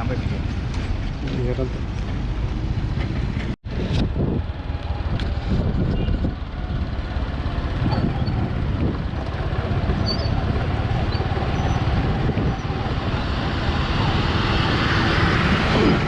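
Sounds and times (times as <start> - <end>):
moving vehicle rumble: 0.0 - 16.0
wind buffeting microphone: 0.3 - 16.0.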